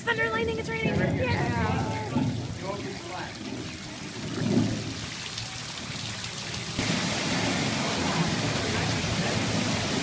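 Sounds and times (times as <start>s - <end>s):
falling water hiss: 1.8s - 10.0s.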